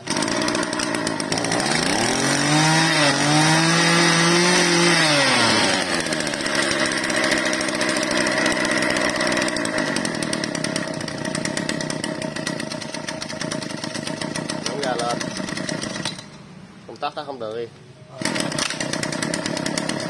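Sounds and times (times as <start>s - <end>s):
brush cutter engine revving: 0.0s - 16.4s, 18.1s - 20.0s.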